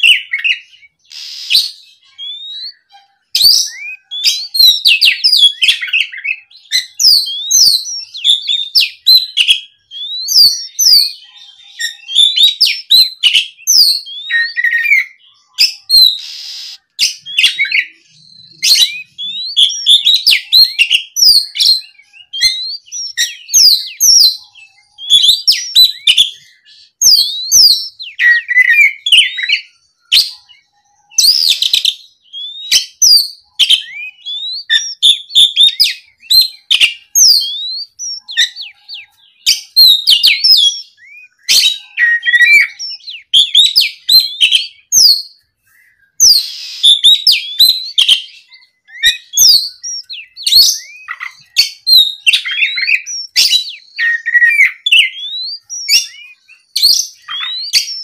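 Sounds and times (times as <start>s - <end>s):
bird singing whistles: 0.0s - 58.0s.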